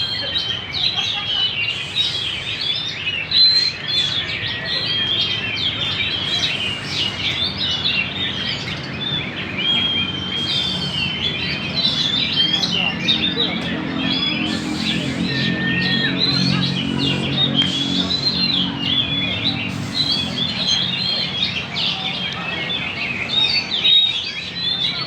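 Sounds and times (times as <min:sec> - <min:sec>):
songbird singing whistles and trills: 0:00.0 - 0:25.0.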